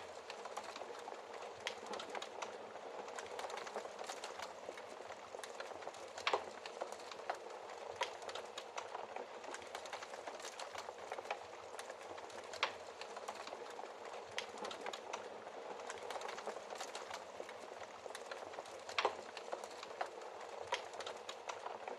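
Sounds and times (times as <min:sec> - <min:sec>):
wood fire crackling: 0:00.0 - 0:21.9.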